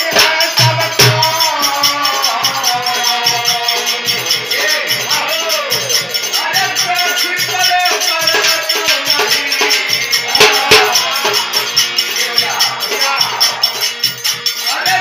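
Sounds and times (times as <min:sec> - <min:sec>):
man singing: 0:00.0 - 0:15.0
rattling hand percussion: 0:00.0 - 0:15.0.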